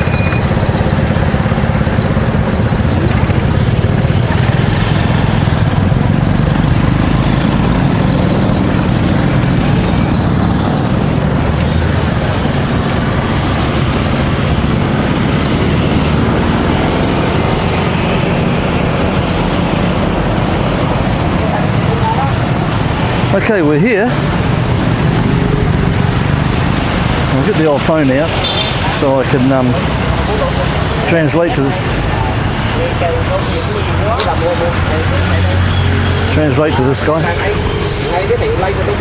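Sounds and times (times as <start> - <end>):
vehicle engines running: 0.0 - 39.0
wind and road noise: 0.0 - 39.0.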